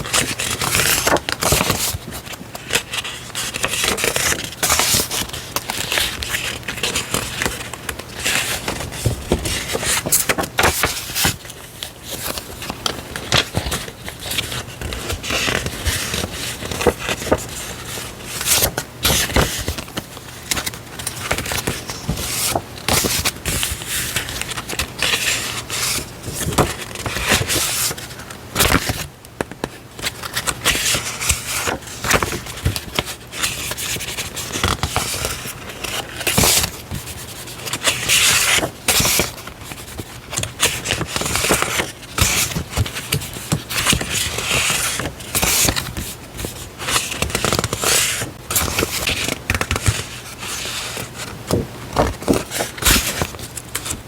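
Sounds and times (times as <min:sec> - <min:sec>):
paper and packaging rustling: 0:00.0 - 0:54.0.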